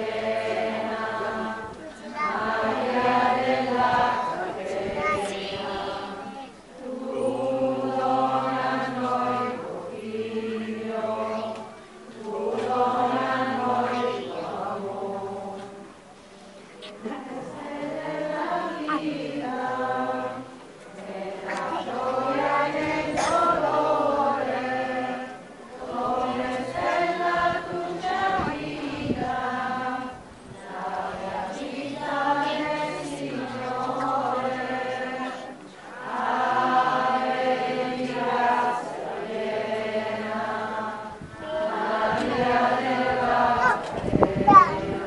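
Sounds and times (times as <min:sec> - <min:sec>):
crowd singing a hymn: 0:00.0 - 0:45.0.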